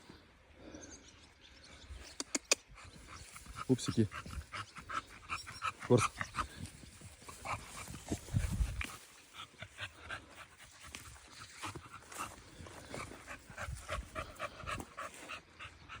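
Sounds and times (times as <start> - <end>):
puppy panting: 2.2 - 16.0.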